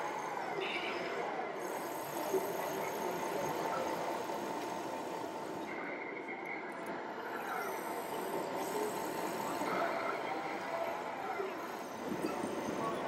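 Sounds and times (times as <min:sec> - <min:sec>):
crowd murmur in a hall: 0:00.0 - 0:13.0.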